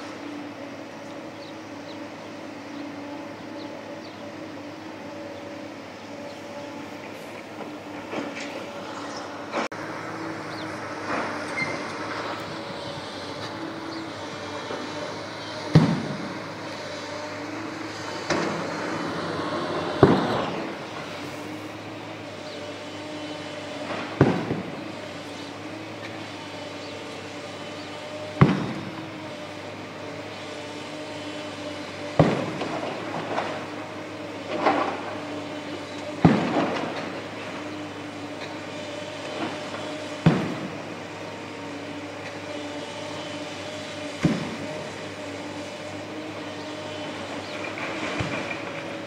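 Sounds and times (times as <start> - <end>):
excavator diesel engines running: 0.0 - 49.0.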